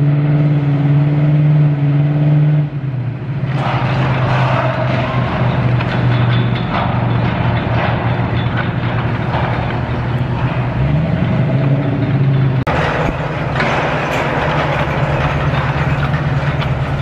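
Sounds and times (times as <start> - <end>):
diesel engine of heavy machinery: 0.0 - 17.0.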